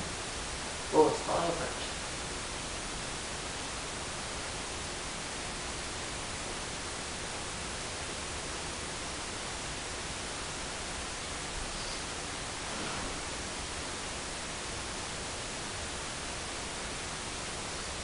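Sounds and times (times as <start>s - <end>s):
steady recording hiss: 0.0s - 18.0s.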